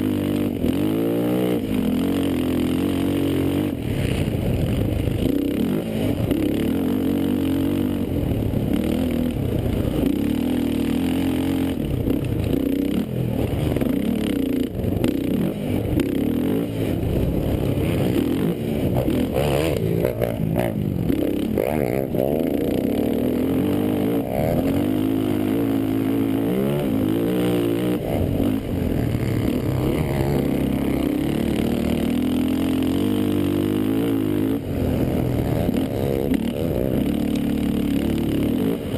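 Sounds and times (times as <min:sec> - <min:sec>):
quad engines revving: 0:00.0 - 0:38.9.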